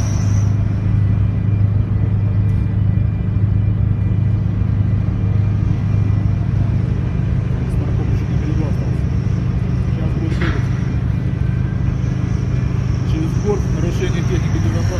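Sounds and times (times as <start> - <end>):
ship engines rumbling: 0.0 - 14.9.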